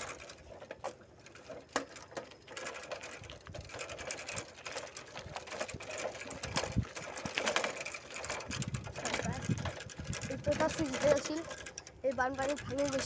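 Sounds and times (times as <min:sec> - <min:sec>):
bicycle rattling on rough track: 0:00.0 - 0:13.0.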